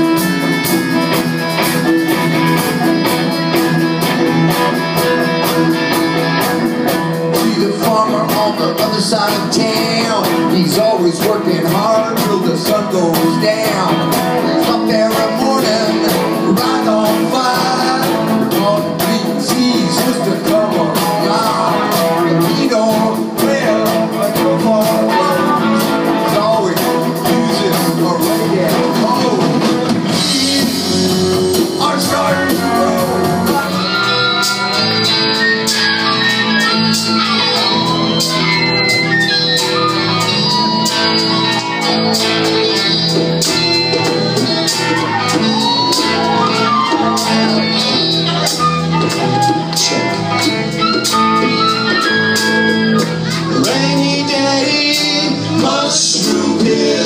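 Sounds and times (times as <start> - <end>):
electric guitar: 0.0 - 57.0
live rock band playing: 0.0 - 57.0.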